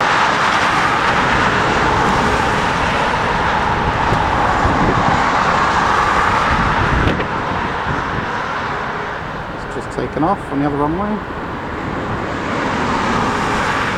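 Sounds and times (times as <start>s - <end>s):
jet airliner engine roar: 0.0s - 13.9s
wind buffeting microphone: 0.0s - 13.9s.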